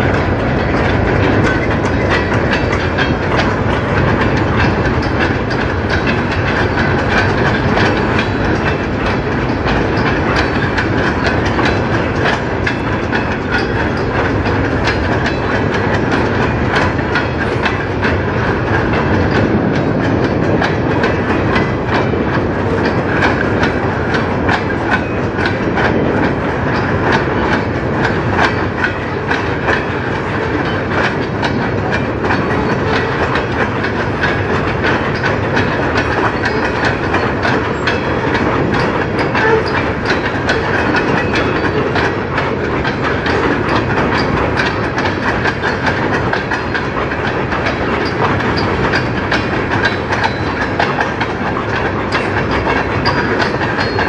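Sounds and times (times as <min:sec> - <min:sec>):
freight train rolling past: 0:00.0 - 0:54.0
wheels clicking over rail joints: 0:00.0 - 0:54.0.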